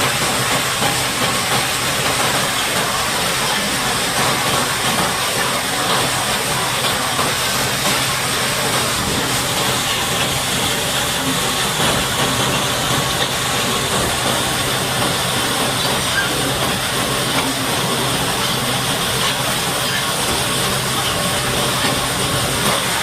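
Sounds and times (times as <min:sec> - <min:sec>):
pressure water spray hissing: 0:00.0 - 0:23.0.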